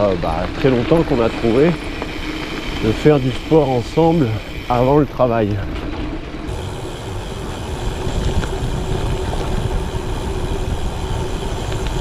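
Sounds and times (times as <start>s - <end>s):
bike tyres rolling on gravel: 0.0s - 12.0s
wind buffeting microphone: 0.0s - 12.0s.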